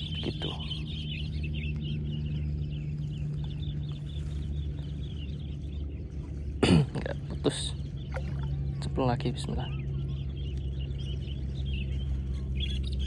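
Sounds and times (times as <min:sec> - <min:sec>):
birds chirping: 0:00.0 - 0:13.0
low machine hum: 0:00.0 - 0:13.0.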